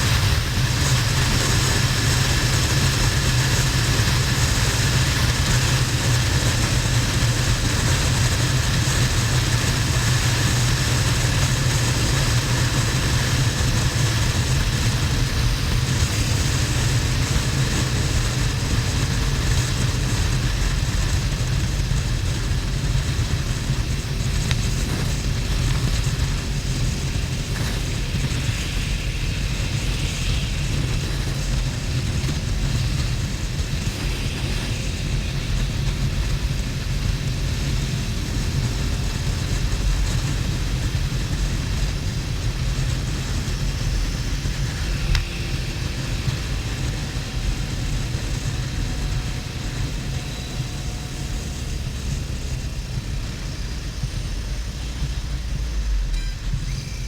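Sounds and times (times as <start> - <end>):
rushing noise: 0.0 - 48.9
motorcycle engine drone: 0.0 - 57.0.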